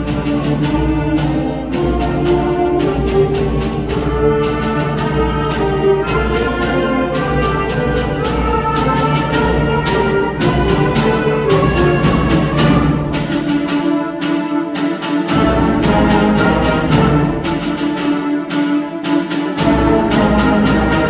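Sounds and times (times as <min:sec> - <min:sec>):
brass and woodwinds chords: 0:00.0 - 0:21.0
percussion strikes: 0:00.0 - 0:21.0.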